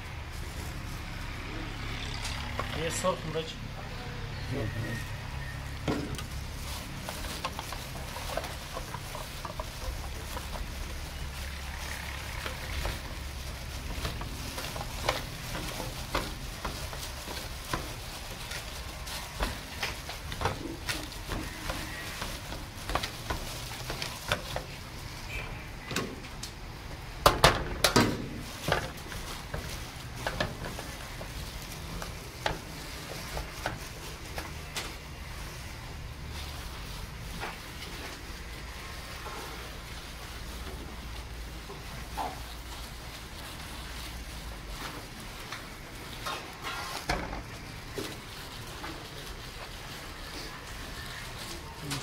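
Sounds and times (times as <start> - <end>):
wet mixing of spice paste: 0.0 - 52.0.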